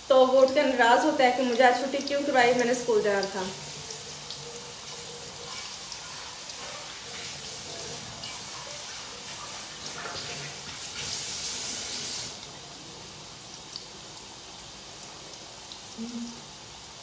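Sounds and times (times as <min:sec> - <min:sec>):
fries sizzling in hot oil: 0:00.0 - 0:17.0.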